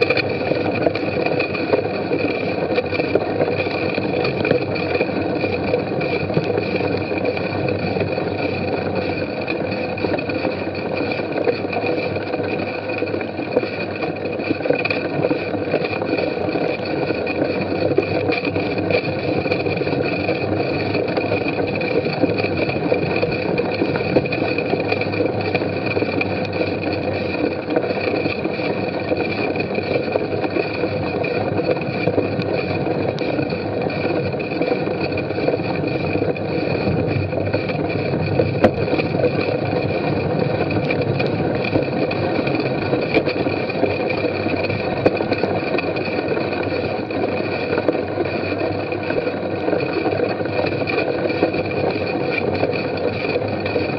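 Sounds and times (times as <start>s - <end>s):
bicycle frame and chain rattling: 0.0s - 53.9s
bicycle tyres rolling: 0.0s - 53.9s.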